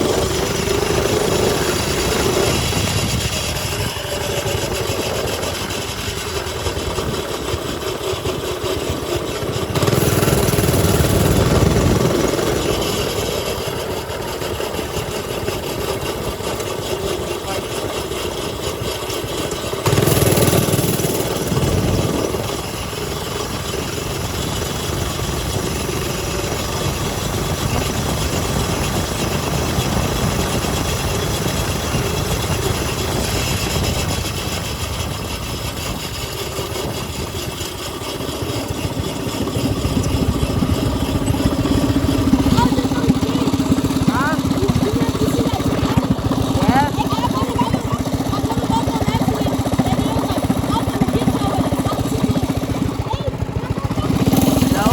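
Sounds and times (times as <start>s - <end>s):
mini bike engines running: 0.0s - 54.9s.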